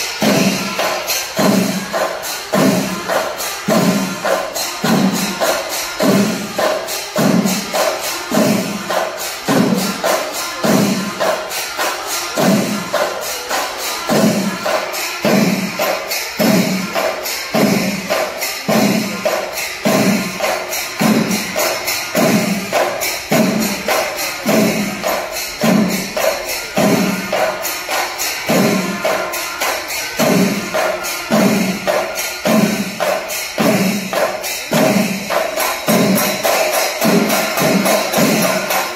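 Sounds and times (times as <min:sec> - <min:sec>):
rapid cymbal clashing: 0:00.0 - 0:38.9.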